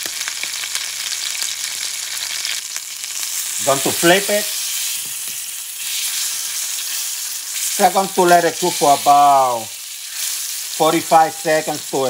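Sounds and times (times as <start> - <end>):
steak sizzling in oil: 0.0 - 12.0.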